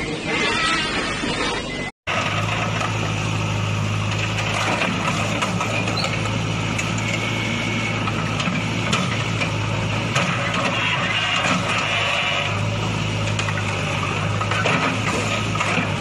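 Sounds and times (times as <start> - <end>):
diesel engine running: 1.7 - 16.0.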